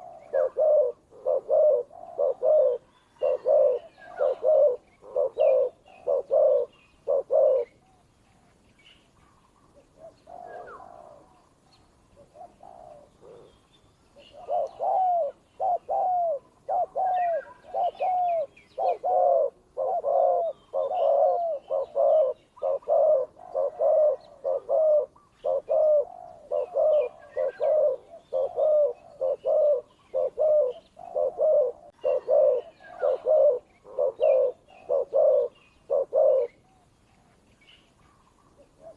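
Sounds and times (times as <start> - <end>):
doves cooing: 0.0 - 8.5, 9.1 - 37.4, 38.0 - 38.9
small birds chirping: 0.0 - 38.9.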